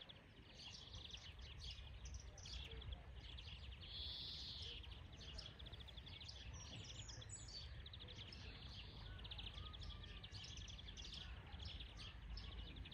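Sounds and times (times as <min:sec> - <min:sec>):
finch singing trills: 0:00.0 - 0:12.9.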